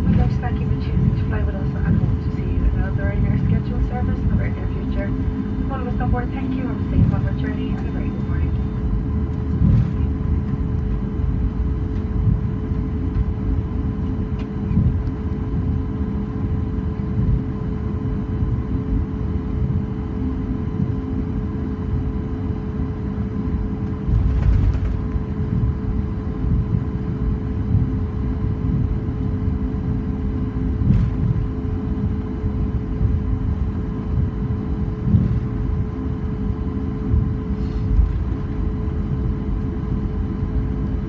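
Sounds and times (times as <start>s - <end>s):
airplane cabin rumble: 0.0s - 41.0s
jet engines humming at idle: 0.0s - 41.0s.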